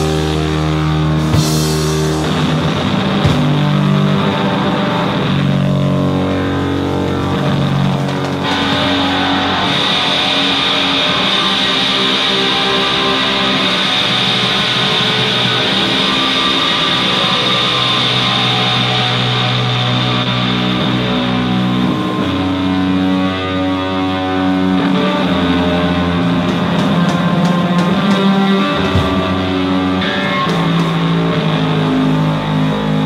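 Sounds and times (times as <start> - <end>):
distorted electric guitar wall: 0.0 - 33.0.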